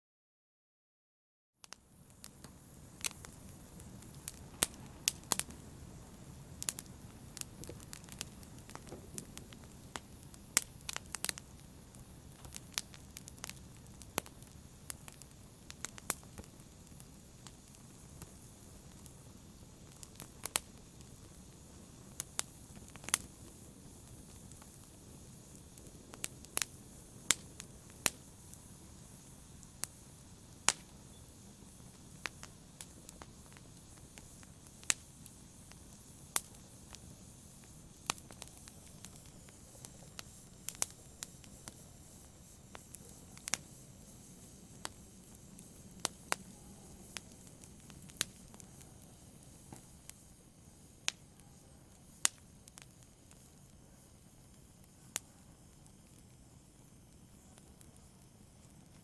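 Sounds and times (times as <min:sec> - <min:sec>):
wood fire crackling in fireplace: 0:01.6 - 0:59.0.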